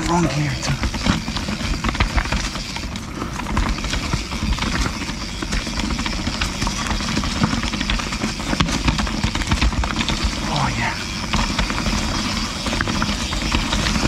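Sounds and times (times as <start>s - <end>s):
bike knocking and rattling: 0.0s - 14.0s
bike tyres rushing on dirt: 0.0s - 14.0s.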